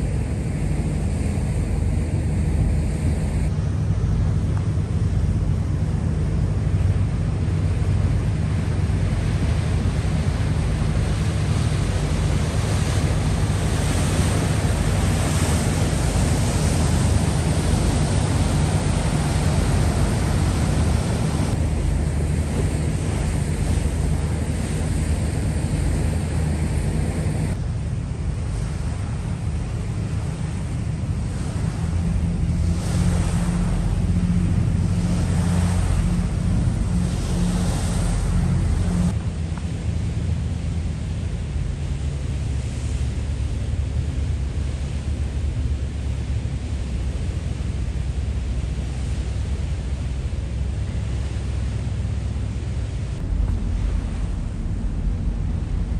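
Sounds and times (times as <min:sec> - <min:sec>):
ferry engine humming: 0:00.0 - 0:55.9
water rushing along hull: 0:00.0 - 0:55.9
wind buffeting microphone: 0:00.0 - 0:55.9.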